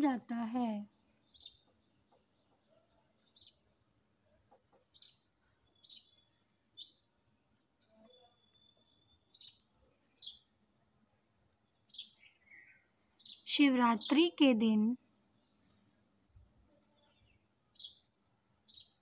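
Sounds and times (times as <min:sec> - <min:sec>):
bird chirps: 0:01.0 - 0:03.8, 0:04.5 - 0:15.9, 0:16.8 - 0:19.0.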